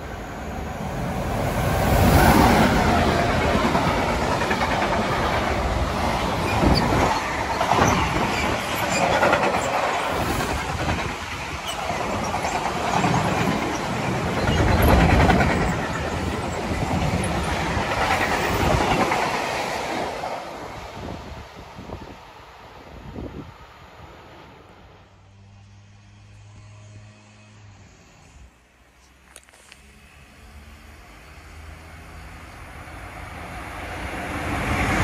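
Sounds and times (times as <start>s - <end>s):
freight train wheels on rail: 0.0s - 35.0s.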